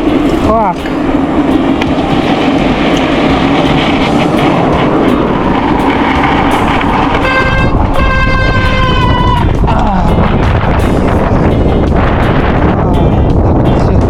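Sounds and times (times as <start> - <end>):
high steady tone: 0.0 - 13.8
wind buffeting microphone: 0.0 - 14.0.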